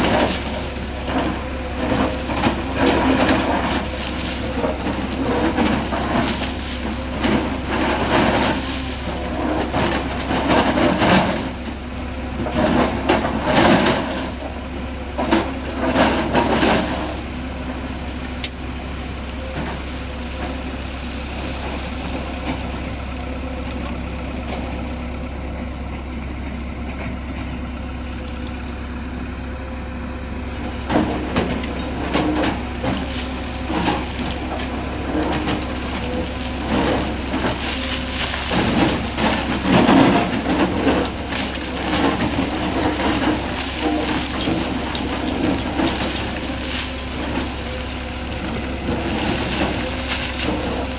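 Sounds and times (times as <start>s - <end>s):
rock and soil scraping and clattering: 0.0s - 18.5s, 19.2s - 24.7s, 30.6s - 50.9s
excavator diesel engine running: 0.0s - 50.9s.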